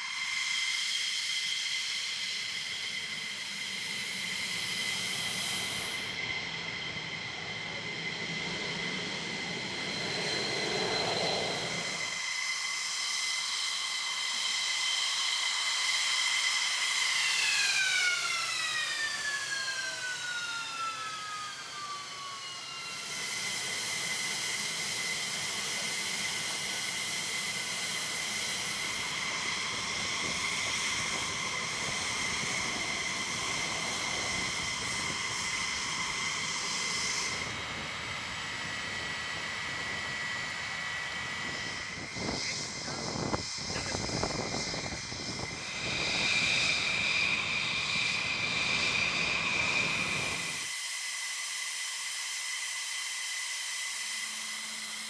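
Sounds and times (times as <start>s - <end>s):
jet engine spooling down: 0.0s - 55.0s
jet engines idling whine: 0.0s - 55.0s.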